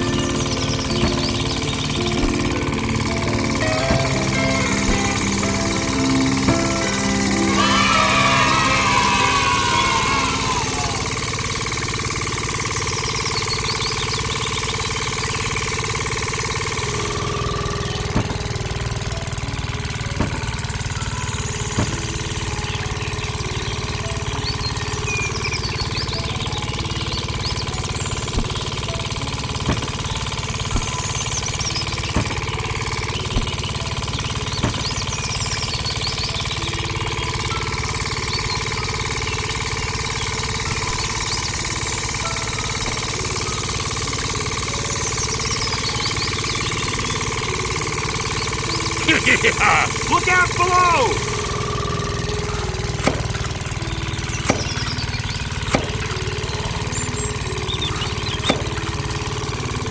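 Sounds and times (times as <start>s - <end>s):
small motor humming: 0.0s - 59.9s.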